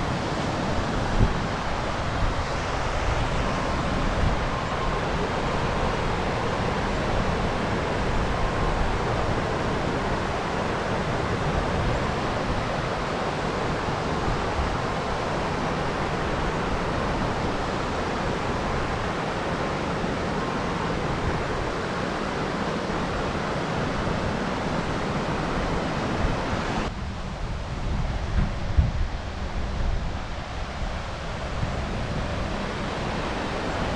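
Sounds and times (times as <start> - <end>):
waterfall rushing: 0.0 - 26.9, 30.9 - 33.9.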